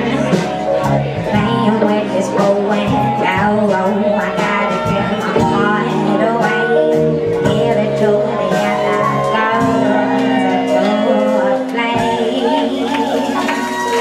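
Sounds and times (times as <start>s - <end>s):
drums: 0.0s - 14.0s
keyboard: 0.0s - 14.0s
person singing: 0.0s - 14.0s.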